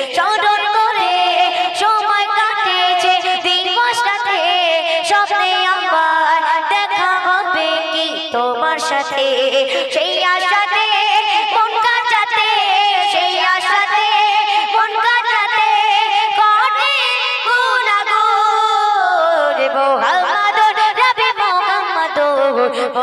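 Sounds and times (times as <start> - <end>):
woman singing through microphone: 0.0 - 23.0.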